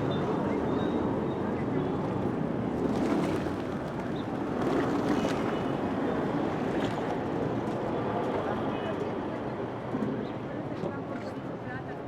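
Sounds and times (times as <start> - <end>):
traffic and street noise: 0.0 - 12.0.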